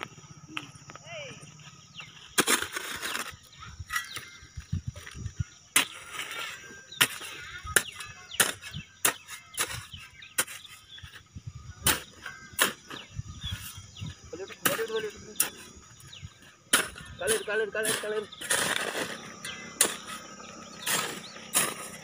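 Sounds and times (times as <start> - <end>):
birds chirping: 0.0 - 22.0
hoe knocking and scraping soil: 1.9 - 22.0.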